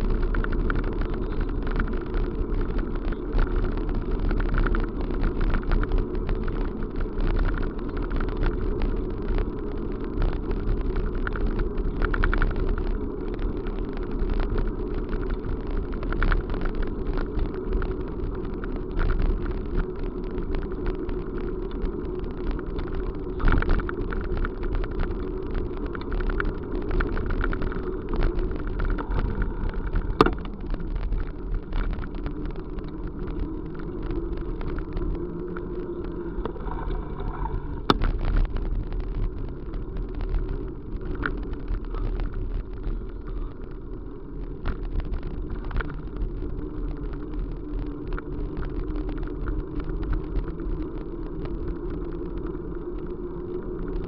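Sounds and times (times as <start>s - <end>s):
vehicle ride rumble: 0.0s - 54.0s.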